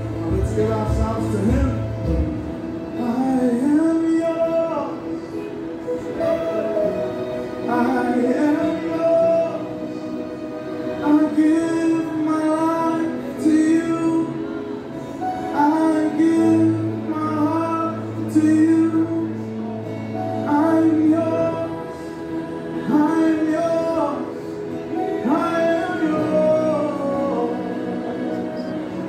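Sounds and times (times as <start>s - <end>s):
people singing: 0.0s - 29.0s
worship band playing: 0.0s - 29.0s.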